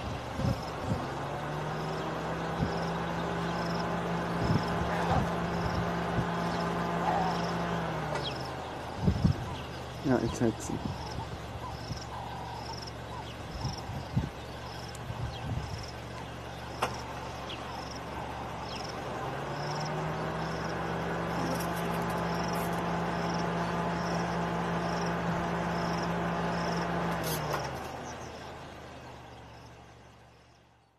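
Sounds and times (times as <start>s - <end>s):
insect chirping: 0.0s - 10.2s, 10.8s - 30.9s
vehicle engine running: 0.0s - 30.9s.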